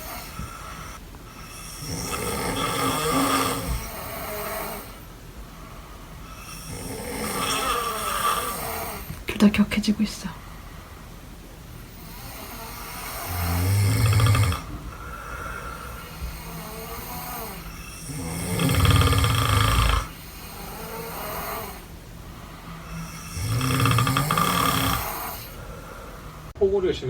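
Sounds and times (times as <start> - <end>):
people snoring: 0.0 - 9.3, 11.8 - 26.6.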